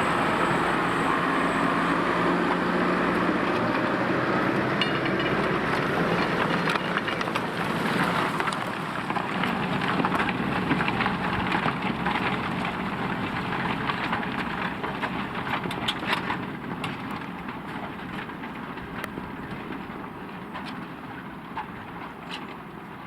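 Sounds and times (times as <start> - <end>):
tractor engine: 0.0 - 23.0.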